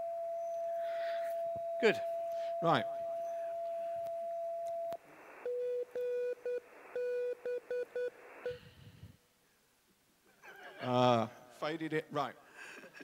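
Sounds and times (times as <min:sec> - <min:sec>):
receiver hiss: 0:00.0 - 0:13.0.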